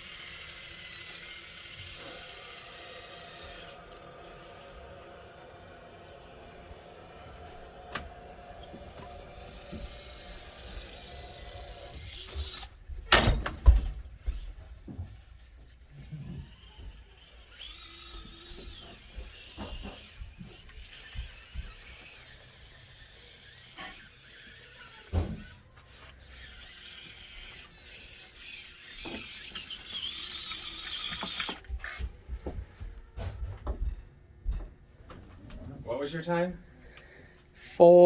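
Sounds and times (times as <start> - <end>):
small electric motor whining: 0.0 - 13.4, 14.1 - 33.1.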